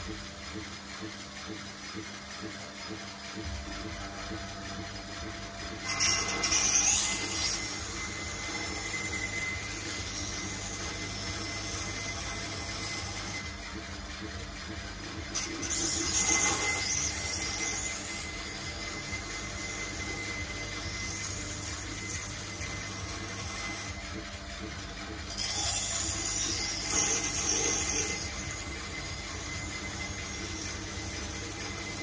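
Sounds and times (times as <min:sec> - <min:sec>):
grinder motor hum: 0:00.0 - 0:32.0
knife grinding on grinder wheel: 0:02.8 - 0:32.0.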